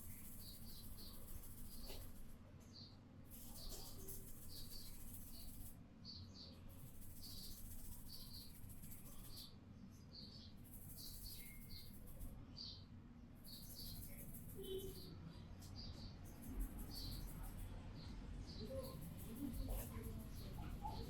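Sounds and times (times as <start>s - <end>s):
small bird chirps: 0.0s - 21.0s.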